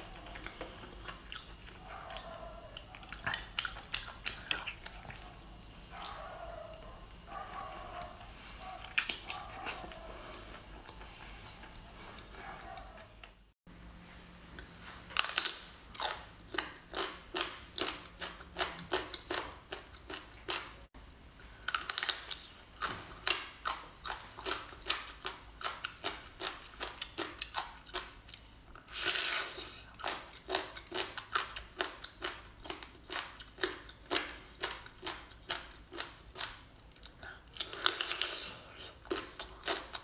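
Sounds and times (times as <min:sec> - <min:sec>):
person chewing food: 0:00.0 - 0:13.6, 0:14.5 - 0:40.0.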